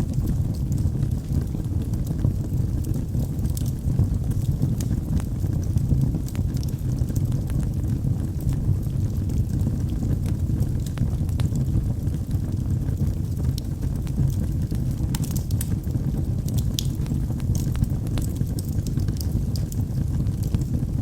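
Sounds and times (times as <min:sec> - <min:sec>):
fire rumbling: 0:00.0 - 0:21.0
logs crackling and popping: 0:00.1 - 0:21.0.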